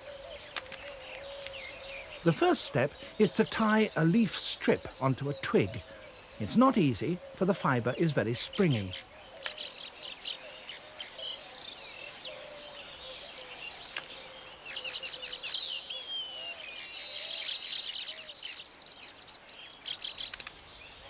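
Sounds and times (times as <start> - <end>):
birds chirping and whistling: 0.0 - 21.0.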